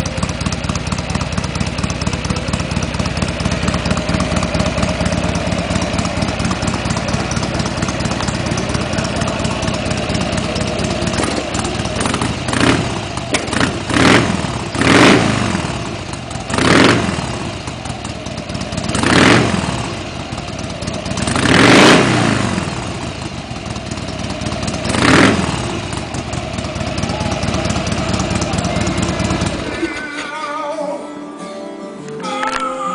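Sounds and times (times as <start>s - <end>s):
motorcycle engine idling and revving: 0.0s - 30.3s.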